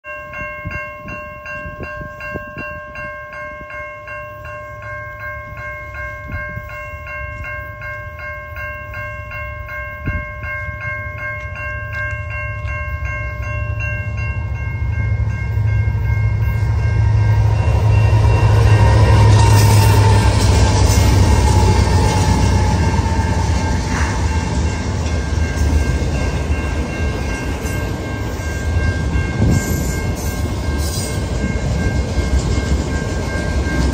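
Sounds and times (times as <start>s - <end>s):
crossing warning bell ringing: 0.0s - 33.9s
freight train rumble: 0.3s - 33.9s.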